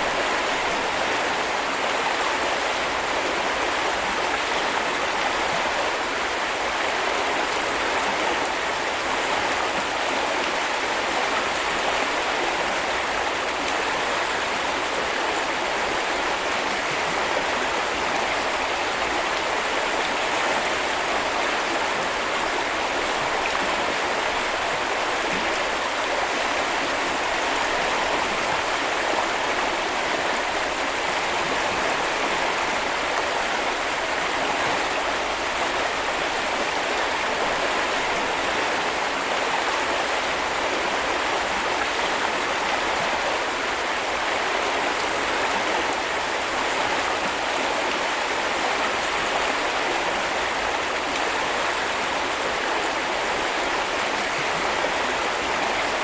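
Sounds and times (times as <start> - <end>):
brook flowing and splashing: 0.0 - 56.0.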